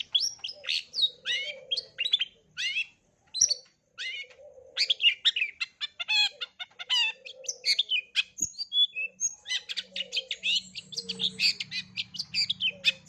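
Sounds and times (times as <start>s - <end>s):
shrike singing chirps and trills: 0.0s - 13.0s.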